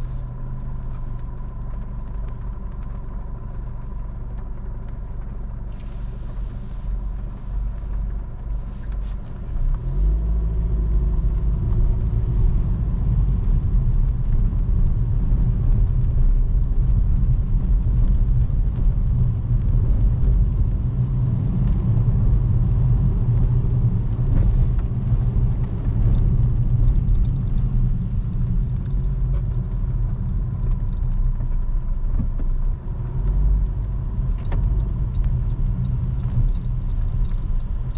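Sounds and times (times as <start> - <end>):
car engine: 0.0 - 37.9
road rumble inside car: 0.0 - 37.9.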